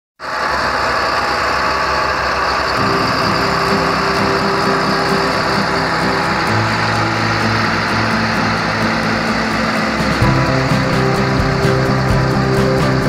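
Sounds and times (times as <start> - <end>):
diesel tractor engine running: 0.2 - 13.0
steady pitched hum: 0.5 - 13.0.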